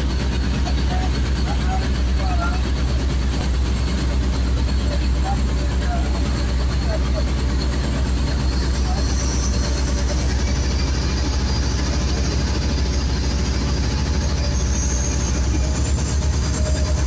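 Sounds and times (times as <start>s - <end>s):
motorboat engine droning: 0.0s - 17.0s
wind: 0.0s - 17.0s.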